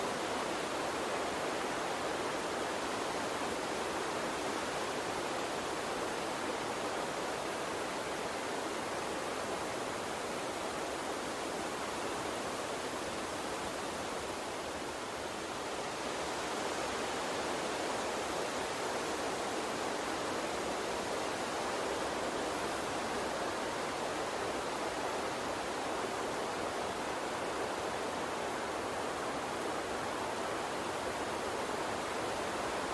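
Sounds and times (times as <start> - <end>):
water stream flowing: 0.0 - 32.9.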